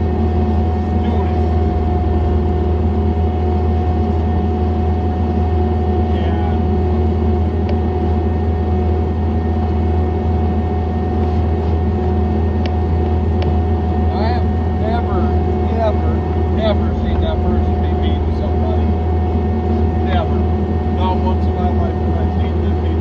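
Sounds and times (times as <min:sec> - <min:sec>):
diesel engine droning: 0:00.0 - 0:23.0
steady whine: 0:00.0 - 0:23.0.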